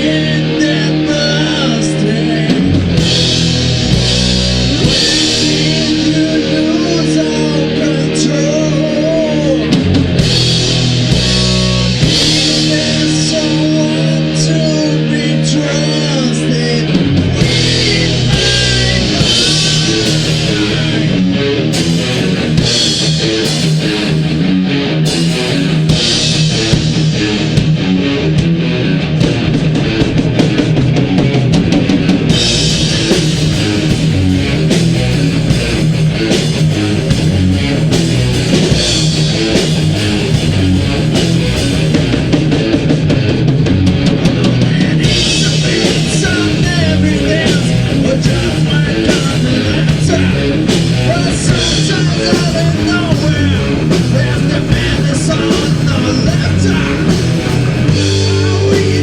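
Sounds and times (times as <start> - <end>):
driving drum kit: 0.0 - 59.0
electric guitars: 0.0 - 59.0.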